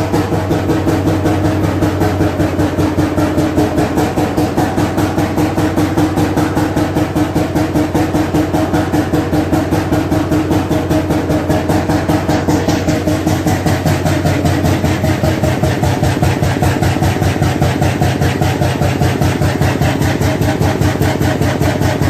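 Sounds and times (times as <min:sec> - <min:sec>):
oil engine thudding slowly: 0:00.0 - 0:22.0.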